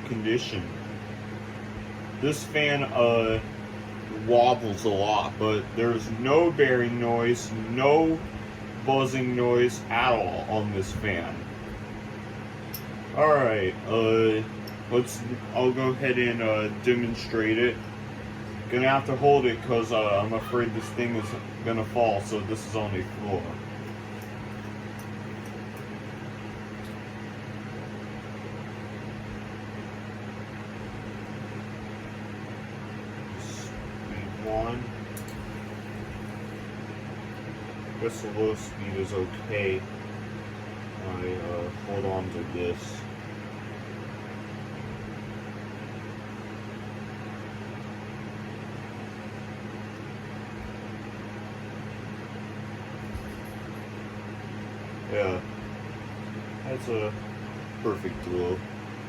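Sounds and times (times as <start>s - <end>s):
electric fan whirring: 0.0s - 59.0s
low even hum: 0.0s - 59.0s.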